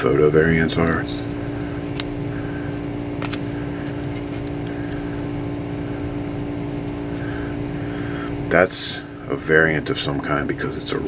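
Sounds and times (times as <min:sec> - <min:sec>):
mechanical hum with low rumble: 0:00.0 - 0:11.0.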